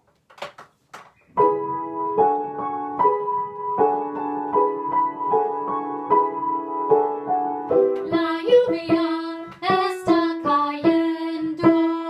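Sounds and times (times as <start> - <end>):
piano chords: 1.3 - 12.0.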